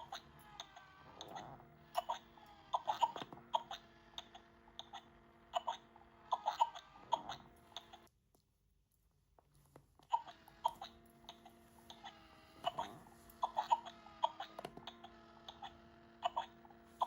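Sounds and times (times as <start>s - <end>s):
doll speaker baby noises: 0.0s - 8.1s, 10.0s - 17.0s
faint steady hum: 0.0s - 8.2s, 9.5s - 17.0s.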